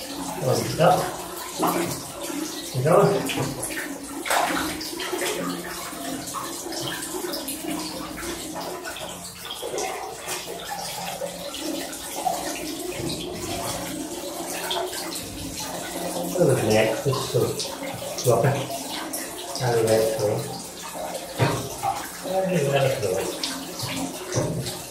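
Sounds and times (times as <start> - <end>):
water splashing in a bathtub: 0.0 - 24.9.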